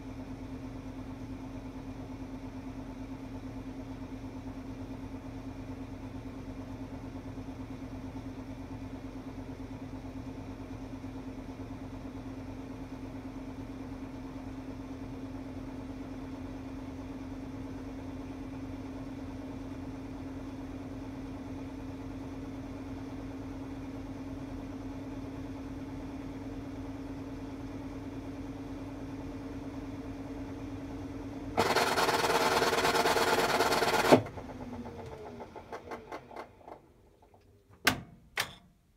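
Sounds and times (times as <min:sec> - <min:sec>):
washing machine spin cycle hum: 0:00.0 - 0:38.8.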